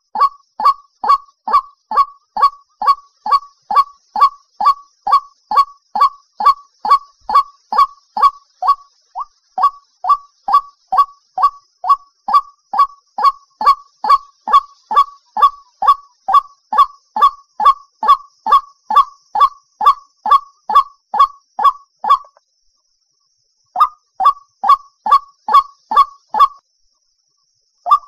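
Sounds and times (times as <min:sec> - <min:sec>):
waterhen croaking call: 0:00.0 - 0:22.4, 0:23.8 - 0:26.6.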